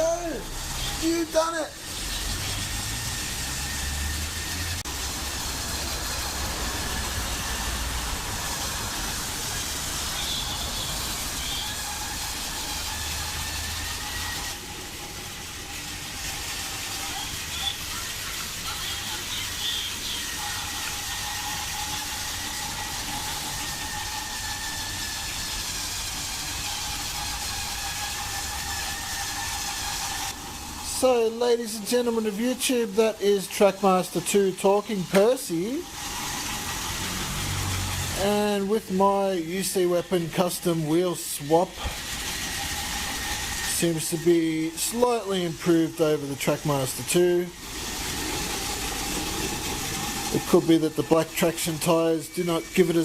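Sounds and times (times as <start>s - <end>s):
toy train motor whine: 0.0s - 53.0s.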